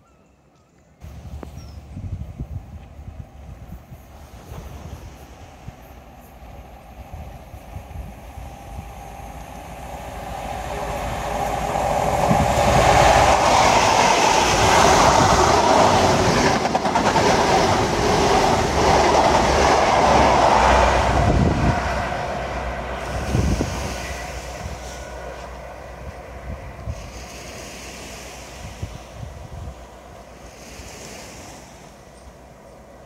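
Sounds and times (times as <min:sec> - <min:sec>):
train passing close by: 0:01.0 - 0:33.0.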